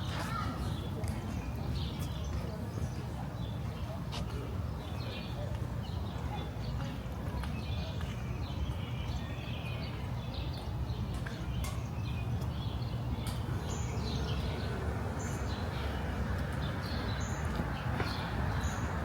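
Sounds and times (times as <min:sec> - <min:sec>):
city background hum: 0:00.0 - 0:19.0.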